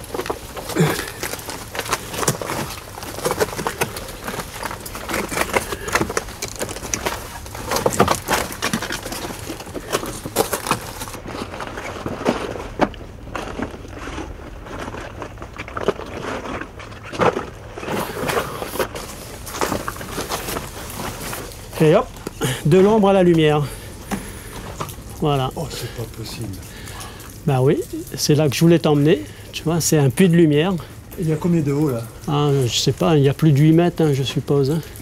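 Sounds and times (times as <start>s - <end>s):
footsteps crunching on rock: 0.0s - 29.6s.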